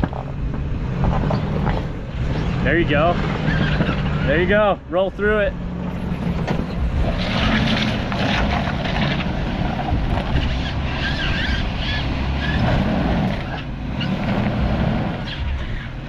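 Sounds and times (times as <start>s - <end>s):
engine running under load: 0.0s - 16.0s.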